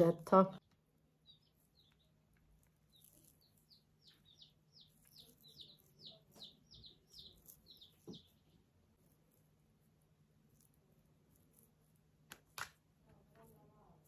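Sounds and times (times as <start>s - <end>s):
faint bird chirping: 0.0s - 11.8s.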